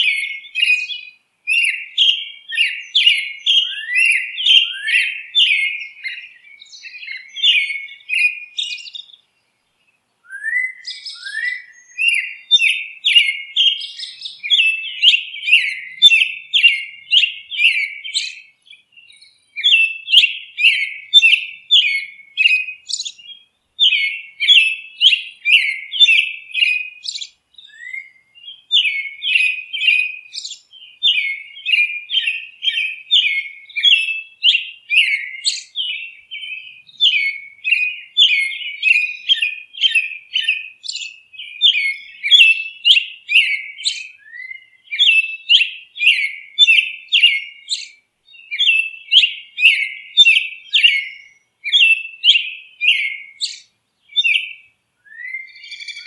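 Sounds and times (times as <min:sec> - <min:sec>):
bird song: 0:00.0 - 0:56.0.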